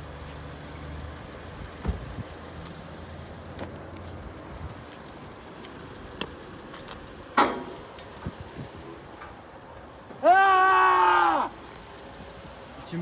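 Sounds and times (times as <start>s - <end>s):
car engine idling: 0.0s - 10.4s, 11.4s - 13.0s
traffic noise: 0.0s - 13.0s.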